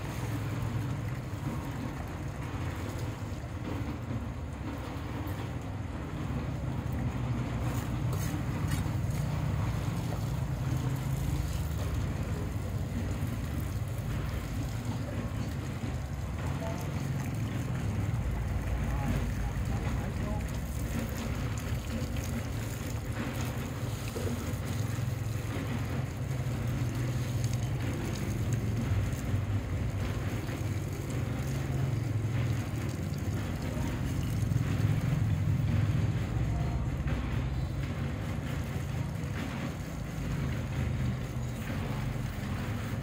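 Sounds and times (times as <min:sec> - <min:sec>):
hose water splashing on slab: 0:00.0 - 0:43.0.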